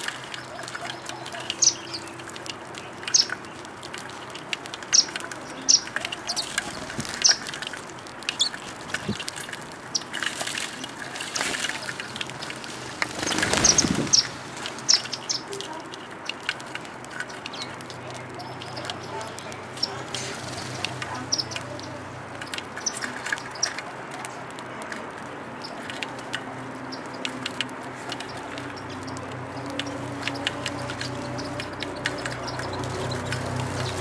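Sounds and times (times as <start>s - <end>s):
sparrows chirping: 0.0s - 34.0s
wings flapping: 0.0s - 34.0s.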